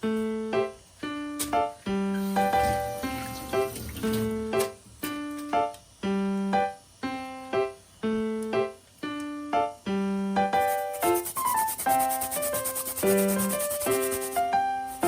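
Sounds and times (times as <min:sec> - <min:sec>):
keyboard melody: 0:00.0 - 0:15.0.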